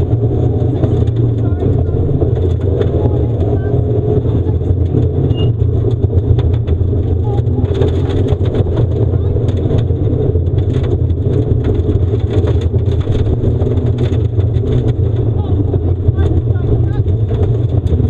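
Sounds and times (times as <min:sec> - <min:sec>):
car engine running hard: 0:00.0 - 0:18.0
gravel rattling against underbody: 0:00.0 - 0:18.0.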